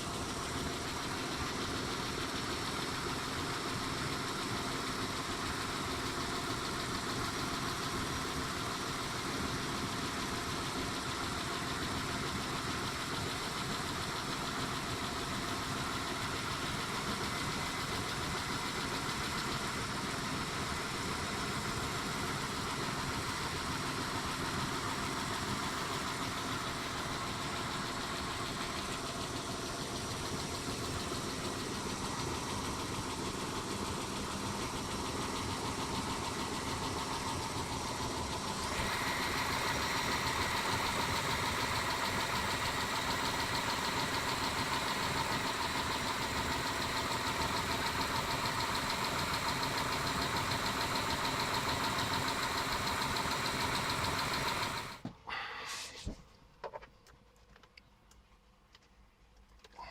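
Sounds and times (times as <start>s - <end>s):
car engine idling: 0.0s - 55.4s.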